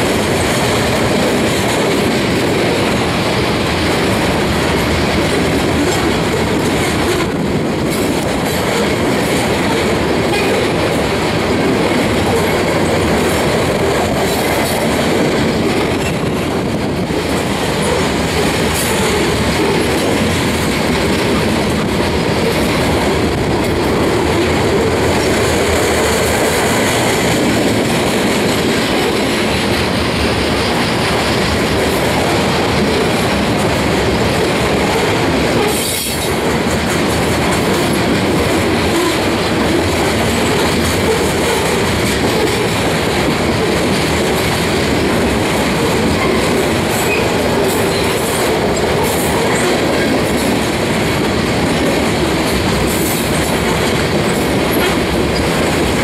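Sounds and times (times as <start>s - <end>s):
freight train wheels on track: 0.0s - 56.0s.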